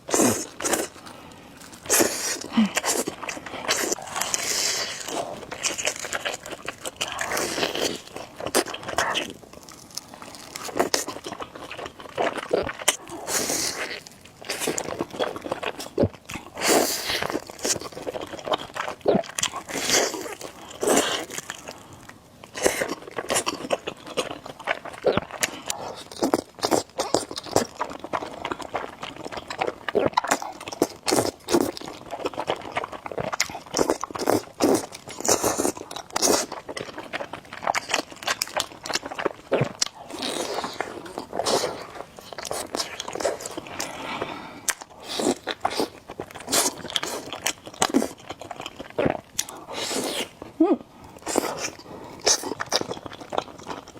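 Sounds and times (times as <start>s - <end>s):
wet chewing: 0.0s - 53.9s.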